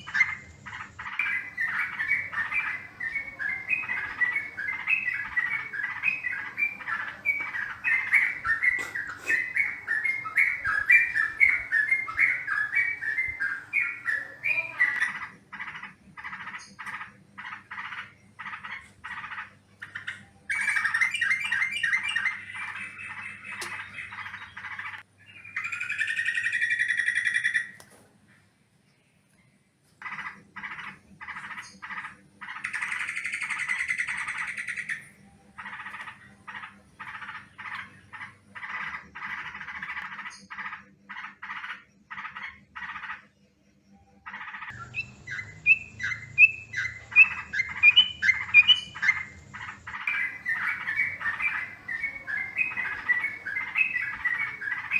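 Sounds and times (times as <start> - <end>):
bulbul chattering calls: 0.0 - 27.6, 35.6 - 43.2, 44.3 - 54.9.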